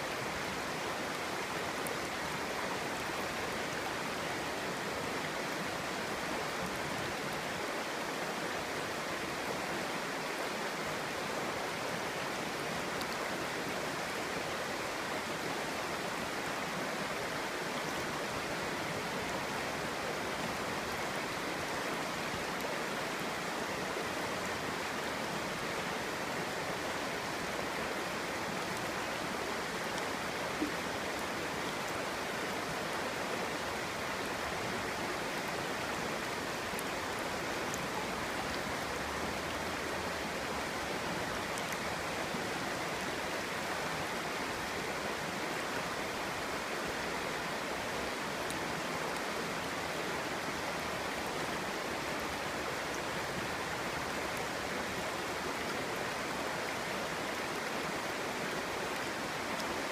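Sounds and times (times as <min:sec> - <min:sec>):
stream water babbling over stones: 0:00.0 - 0:59.9.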